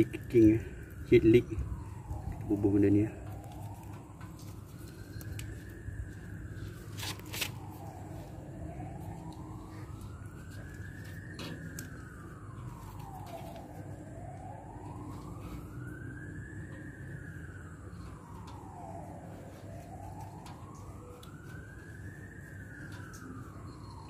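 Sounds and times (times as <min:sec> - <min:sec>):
emergency vehicle siren wailing: 0:00.0 - 0:24.0.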